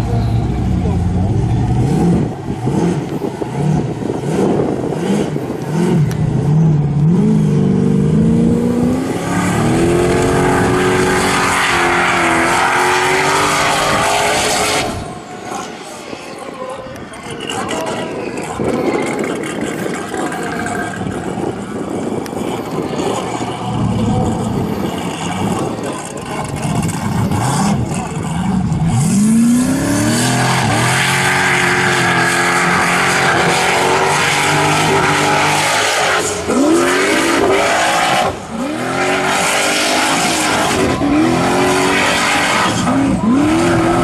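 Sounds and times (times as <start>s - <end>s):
racing car engine revving: 0.0s - 44.0s.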